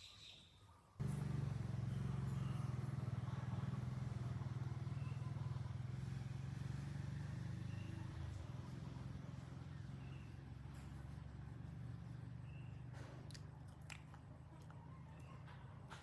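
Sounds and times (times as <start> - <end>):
vehicle engine running: 1.0 - 16.0.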